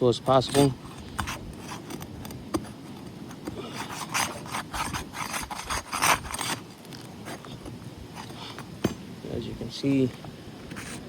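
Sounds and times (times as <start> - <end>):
tool scraping roof shingle: 0.0 - 9.0, 10.7 - 11.0.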